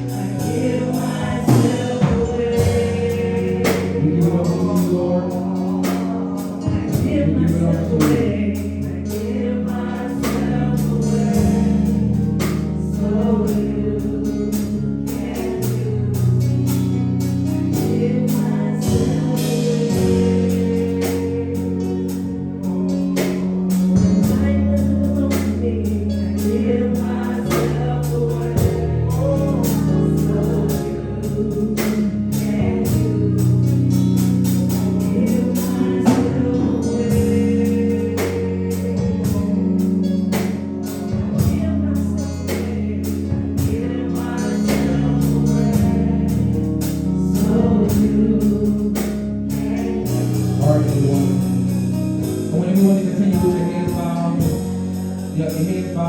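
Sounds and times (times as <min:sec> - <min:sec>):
bass line: 0:00.0 - 0:56.0
choir singing gospel music: 0:00.0 - 0:56.0
organ chords: 0:00.0 - 0:56.0.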